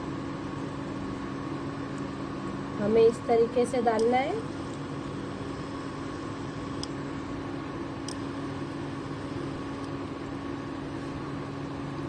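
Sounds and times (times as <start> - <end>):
steady hum with hiss: 0.0 - 12.0.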